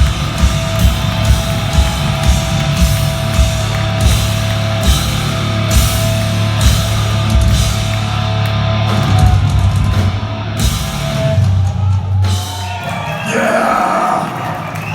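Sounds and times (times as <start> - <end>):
crowd cheering and shouting: 0.0 - 14.9
heavy metal band playing live: 0.0 - 14.9.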